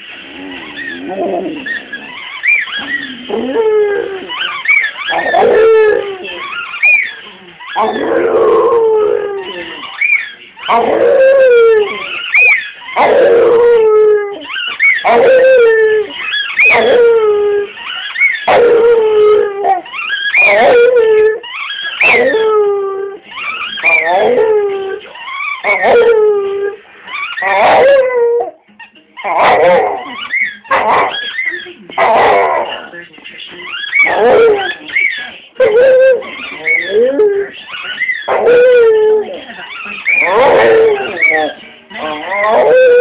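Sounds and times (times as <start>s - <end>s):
dog howling: 0.4s - 28.6s, 29.3s - 32.8s, 33.8s - 43.0s.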